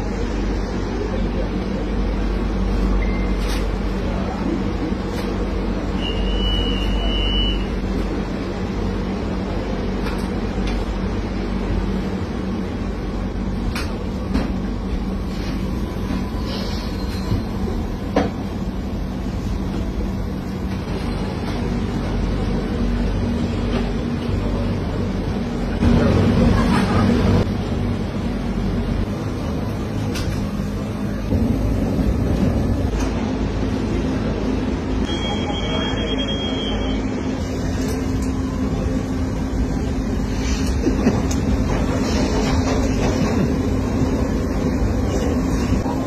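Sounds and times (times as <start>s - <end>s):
metro train rumbling: 0.0s - 46.0s.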